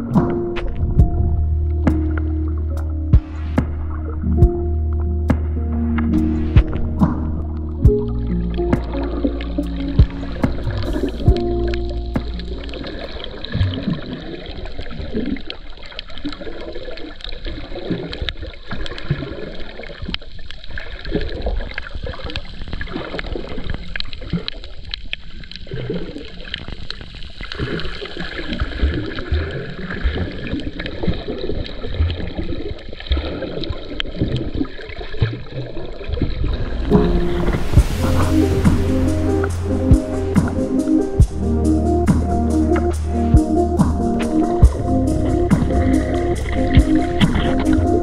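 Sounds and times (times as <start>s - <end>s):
faint underwater crackles: 0.0s - 48.0s
muffled underwater water movement: 0.0s - 48.0s.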